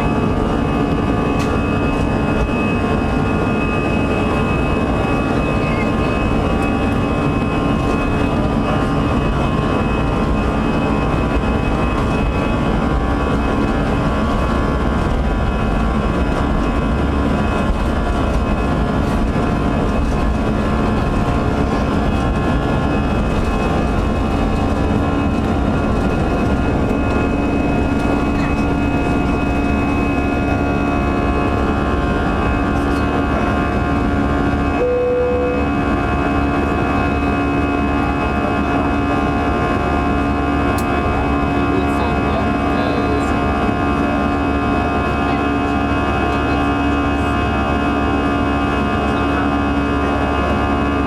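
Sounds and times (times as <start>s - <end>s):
jet engines at takeoff power: 0.0s - 51.0s.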